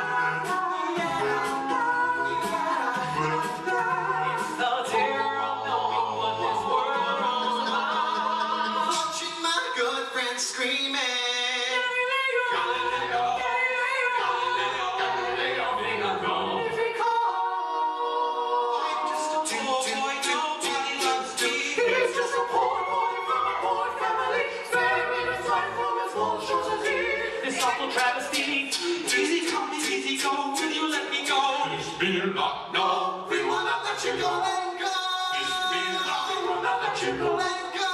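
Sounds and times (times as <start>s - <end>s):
mouth percussion beat: 0.0s - 11.4s, 18.8s - 37.9s
voices singing in close harmony: 0.0s - 37.9s.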